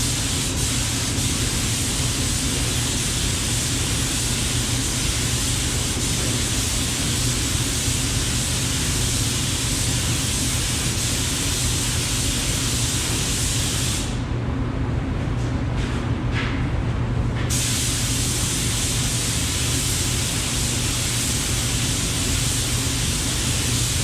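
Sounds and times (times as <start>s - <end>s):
spray gun hissing: 0.0s - 14.2s, 17.5s - 24.0s
steady low hum: 0.0s - 24.0s.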